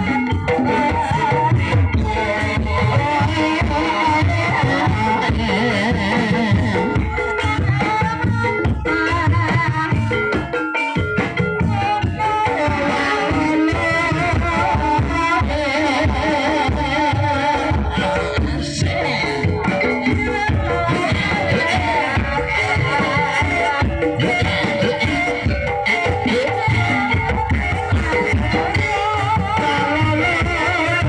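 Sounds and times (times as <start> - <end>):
gamelan ensemble music: 0.0 - 31.0
steady drum beat: 0.0 - 31.0.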